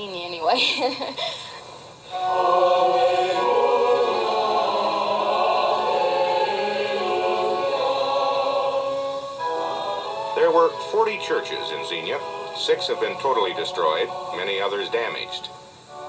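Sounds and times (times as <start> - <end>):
church choir singing: 2.0 - 16.0.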